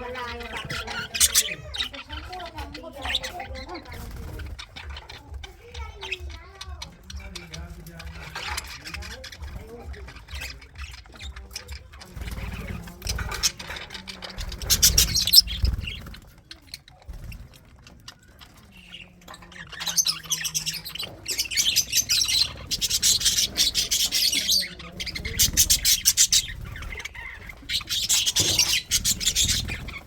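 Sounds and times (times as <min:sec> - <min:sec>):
budgerigars chirping: 0:00.0 - 0:30.0.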